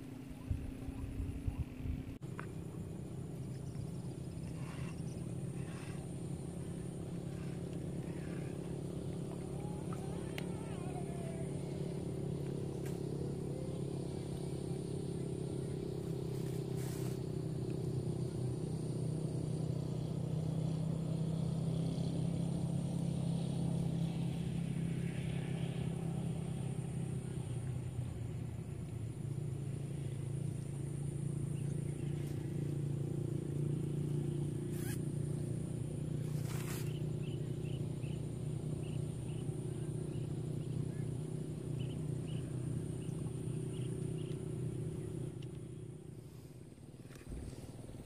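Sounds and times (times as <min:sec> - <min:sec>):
low motor drone: 0:00.0 - 0:48.0.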